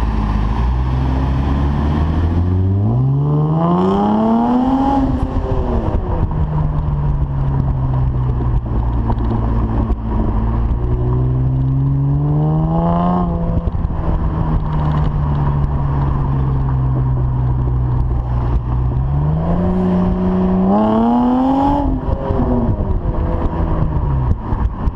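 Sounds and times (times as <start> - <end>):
car engine accelerating and shifting: 0.0 - 24.9.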